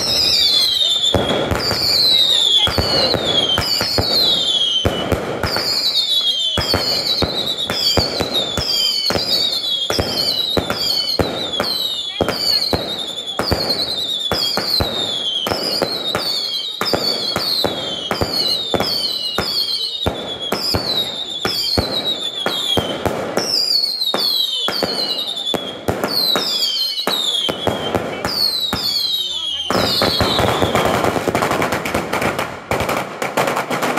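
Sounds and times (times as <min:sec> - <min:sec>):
fireworks bangs and cracks: 0:00.0 - 0:33.9
whistling fireworks shells: 0:00.0 - 0:33.9.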